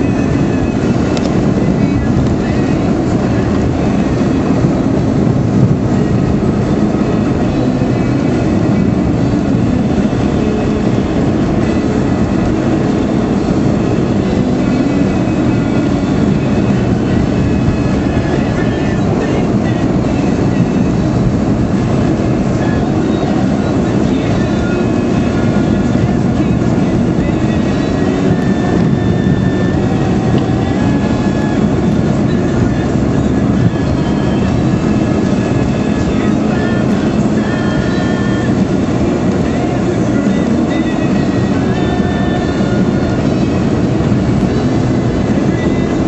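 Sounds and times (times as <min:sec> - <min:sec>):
car engine and tyre noise: 0:00.0 - 0:46.0.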